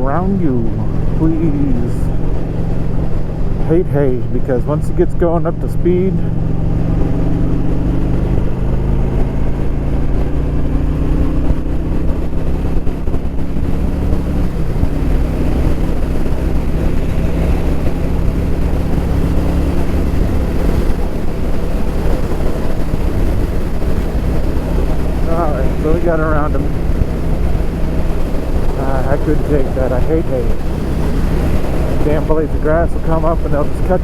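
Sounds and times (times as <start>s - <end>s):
motorcycle engine running: 0.0s - 34.0s
wind noise on microphone: 0.0s - 34.0s.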